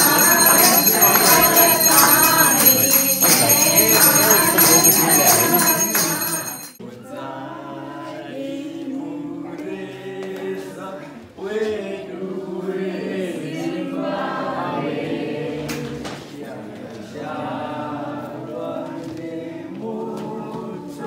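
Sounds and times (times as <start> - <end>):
group chanting in unison: 0.0 - 21.0.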